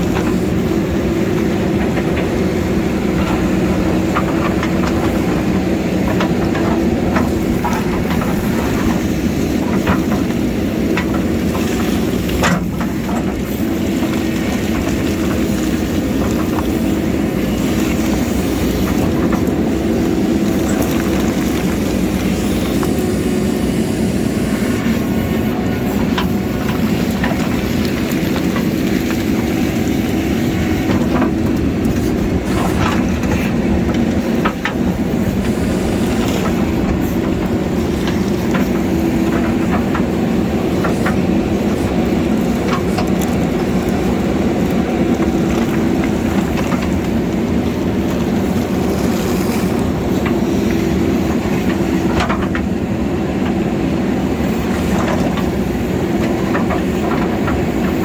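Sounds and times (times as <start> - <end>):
bucket clanking against rock: 0.0 - 23.1, 24.8 - 52.8
diesel engine running under load: 0.0 - 58.0.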